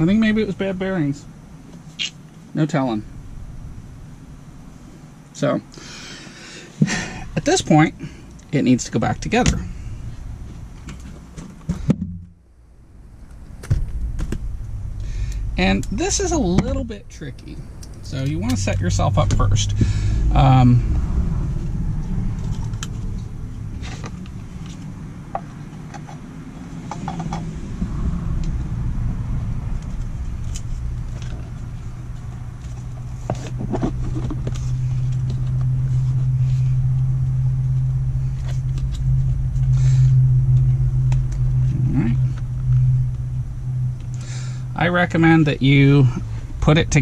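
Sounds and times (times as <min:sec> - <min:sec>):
low rumble and hum: 0:00.0 - 0:47.0.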